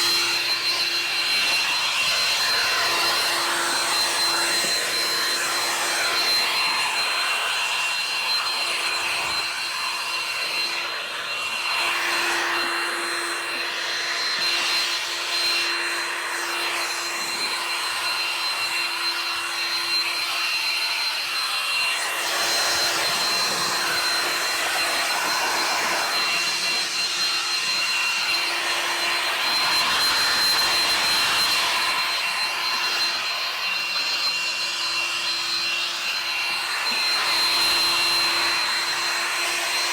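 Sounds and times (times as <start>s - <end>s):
electric blower running: 0.0s - 39.9s.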